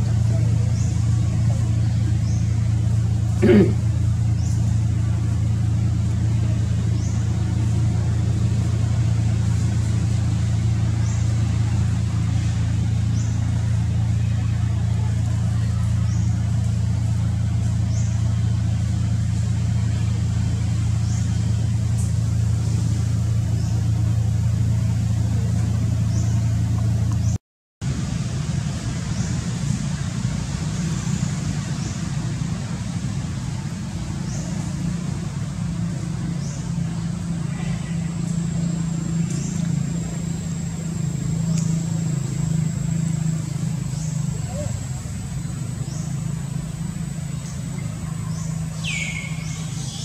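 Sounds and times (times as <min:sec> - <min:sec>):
low motor hum: 0:00.0 - 0:50.0.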